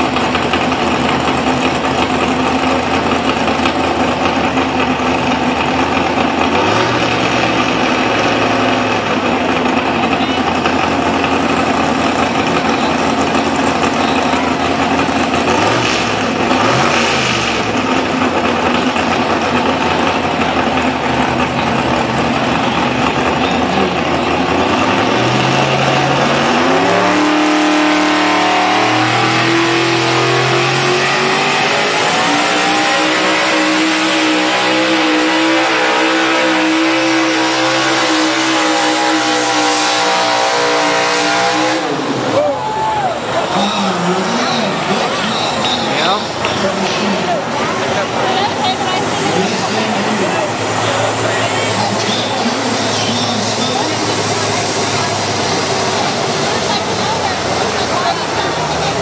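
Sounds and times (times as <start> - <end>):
loud engine revving: 0.0 - 42.5, 43.2 - 59.0.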